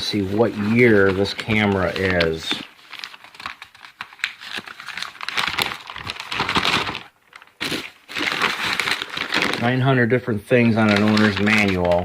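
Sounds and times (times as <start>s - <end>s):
paper pages turning: 0.0s - 9.8s, 10.6s - 12.0s
paper crinkling: 0.0s - 9.9s, 10.6s - 12.0s.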